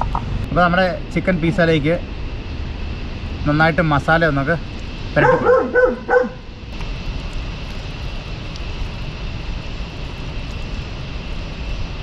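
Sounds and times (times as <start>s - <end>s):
engine rumbling: 0.0s - 12.0s
faint high whine: 0.0s - 12.0s.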